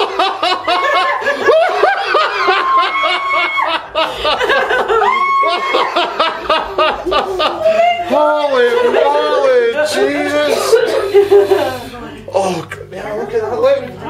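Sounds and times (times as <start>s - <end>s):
people laughing and giggling: 0.0s - 12.0s.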